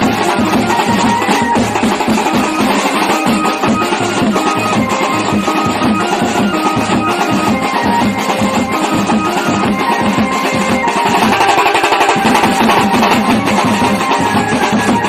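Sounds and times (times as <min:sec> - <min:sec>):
fast steady drumming: 0:00.0 - 0:15.0
sustained melody: 0:00.0 - 0:15.0.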